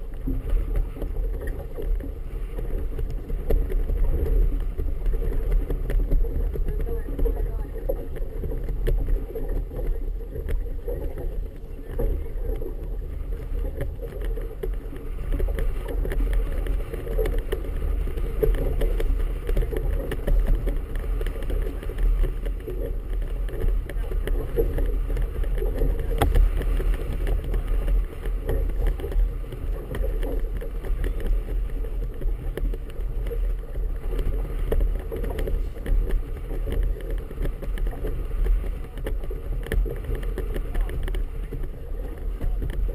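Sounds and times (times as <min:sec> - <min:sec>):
choppy water around boat: 0:00.0 - 0:42.9
wind rumble: 0:00.0 - 0:42.9.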